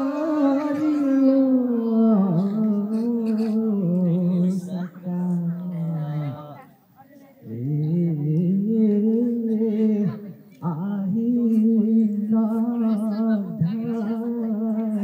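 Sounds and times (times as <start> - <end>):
man singing through loudspeaker: 0.0 - 6.7, 7.4 - 15.0.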